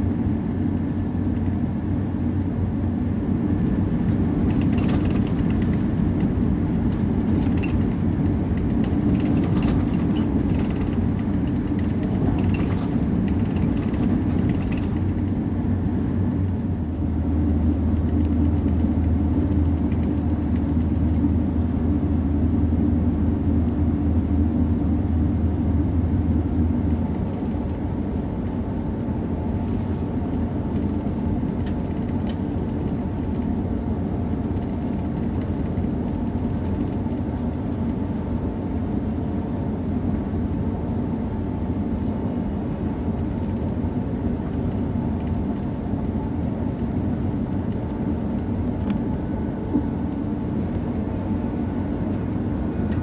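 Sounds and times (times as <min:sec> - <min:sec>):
train wheels and drive rumble: 0:00.0 - 0:53.0.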